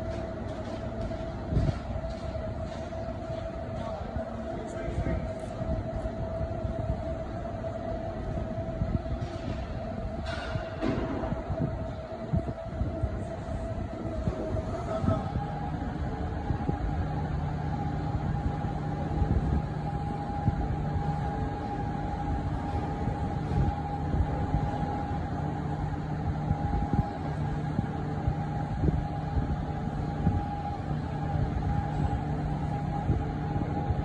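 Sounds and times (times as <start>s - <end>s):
hoist high whine: 0.0s - 34.0s.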